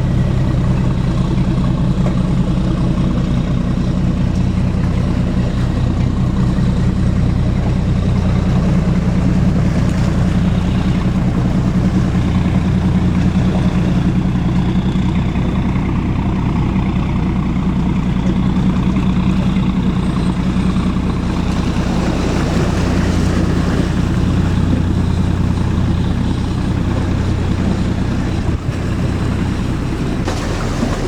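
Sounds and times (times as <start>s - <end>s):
heavy engine droning: 0.0s - 31.0s.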